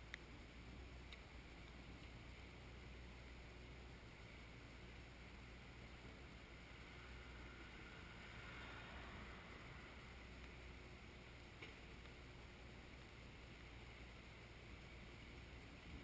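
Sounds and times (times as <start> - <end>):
faint steady hiss: 0.0 - 16.0
low hum: 0.0 - 16.0.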